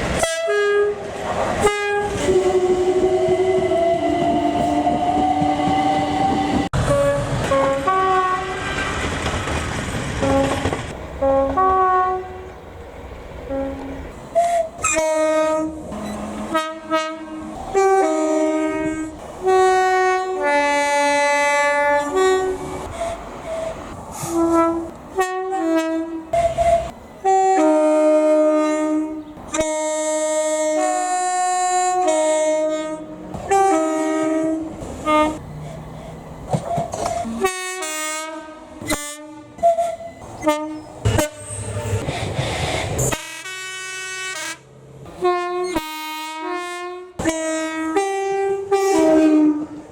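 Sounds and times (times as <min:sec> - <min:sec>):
multi-tone train horns: 0:00.0 - 0:09.4, 0:10.0 - 0:12.6, 0:13.4 - 0:35.8, 0:36.6 - 0:42.1, 0:43.0 - 0:49.9.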